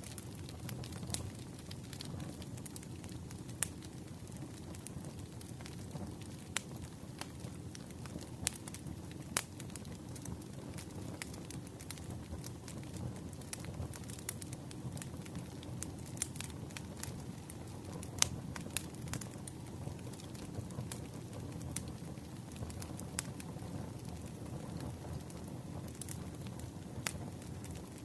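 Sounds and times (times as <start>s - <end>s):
campfire low rumble: 0.0s - 28.0s
wood crackling and popping: 0.0s - 28.0s.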